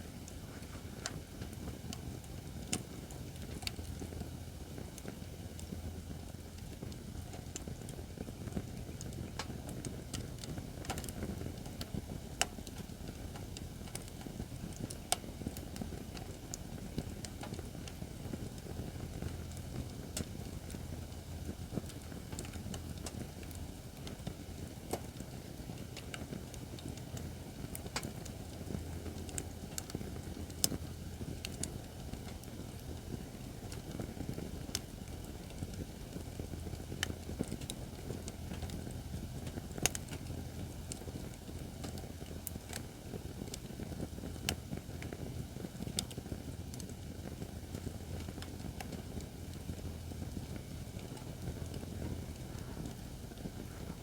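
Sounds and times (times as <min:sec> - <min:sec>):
fire pops and crackles: 0:00.0 - 0:54.0
fire rumbling: 0:00.0 - 0:54.0.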